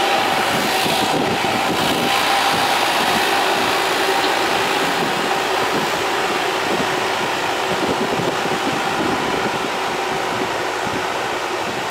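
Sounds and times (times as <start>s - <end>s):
excavator diesel engine running: 0.0s - 11.9s.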